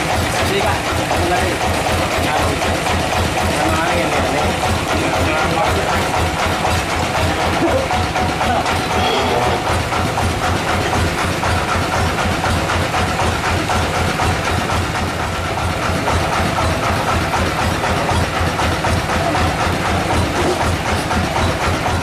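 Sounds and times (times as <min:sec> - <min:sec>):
engine throbbing: 0:00.0 - 0:22.0
sawmill machinery noise: 0:00.0 - 0:22.0.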